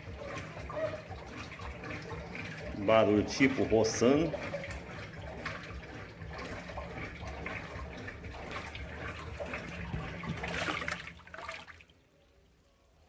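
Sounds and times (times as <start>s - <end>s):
low motor hum: 0.0s - 11.1s
water sloshing: 0.0s - 12.1s
washing machine agitating: 0.0s - 13.0s.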